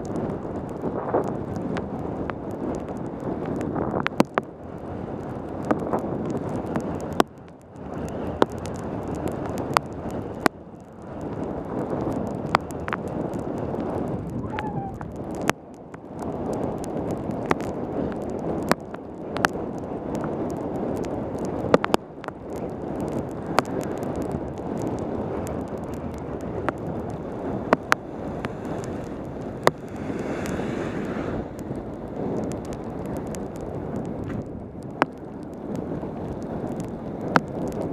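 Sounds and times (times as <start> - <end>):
wind rushing over microphone: 0.0 - 37.9.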